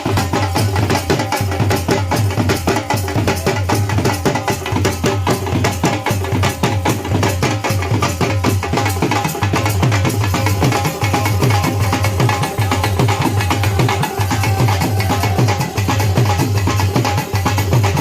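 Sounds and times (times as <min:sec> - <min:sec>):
drums playing fast rhythm: 0:00.0 - 0:18.0.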